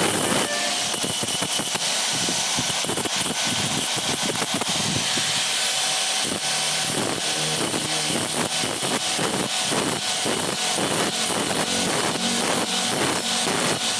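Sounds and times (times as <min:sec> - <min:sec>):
electric motor running: 0:00.0 - 0:13.9.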